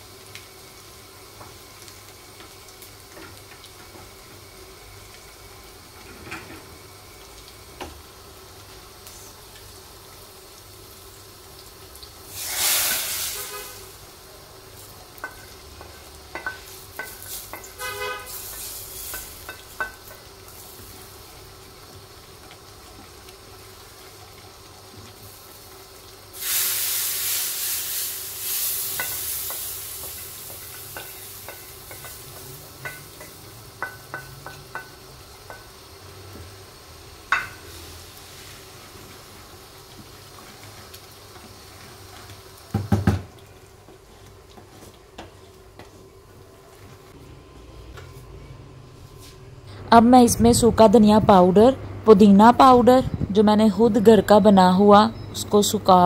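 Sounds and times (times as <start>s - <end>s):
hot oil sizzling: 0.0s - 56.0s.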